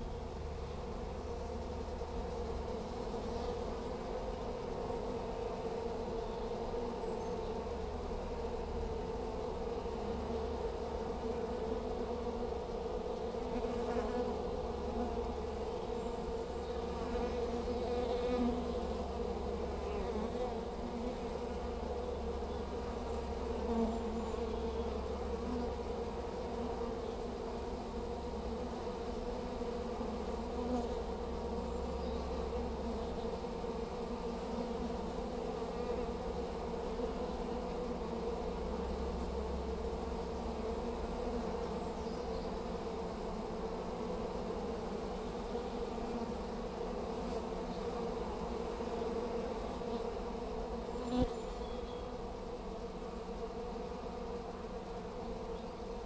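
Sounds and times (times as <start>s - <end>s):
honey bees buzzing: 0.0s - 56.0s.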